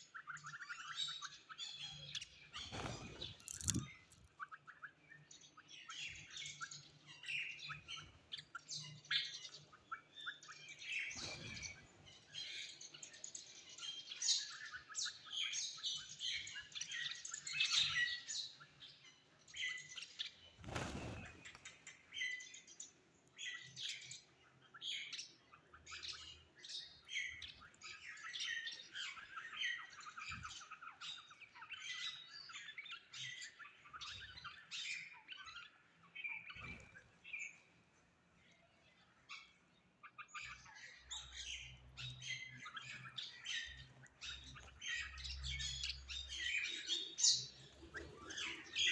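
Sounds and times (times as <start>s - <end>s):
birds chirping and calling: 0.0s - 48.9s.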